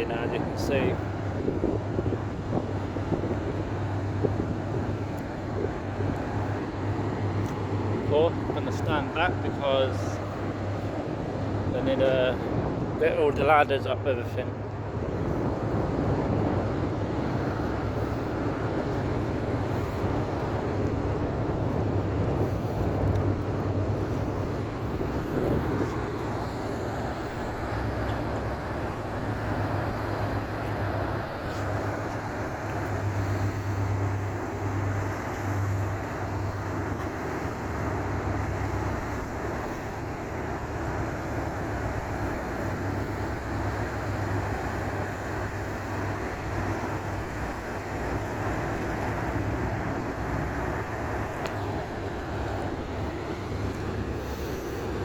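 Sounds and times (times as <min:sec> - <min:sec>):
ferry engines humming: 0:00.0 - 0:55.0.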